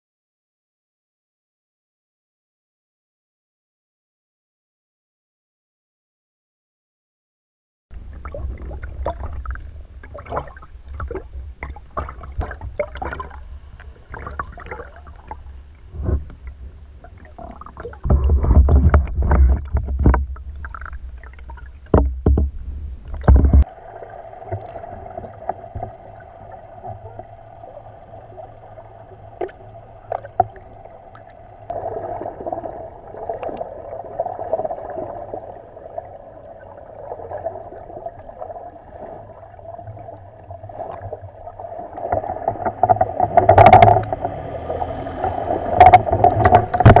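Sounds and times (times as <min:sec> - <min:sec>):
underwater clicks and crackles: 0:07.9 - 0:23.7, 0:24.4 - 0:47.0
low underwater rumble: 0:07.9 - 0:47.0
steady hum with held tones: 0:07.9 - 0:47.0.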